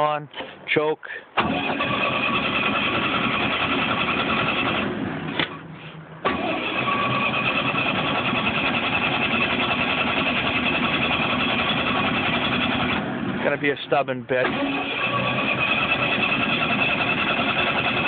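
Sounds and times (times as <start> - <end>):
starter cranking engine: 1.4 - 5.4, 6.2 - 13.1, 14.4 - 18.0.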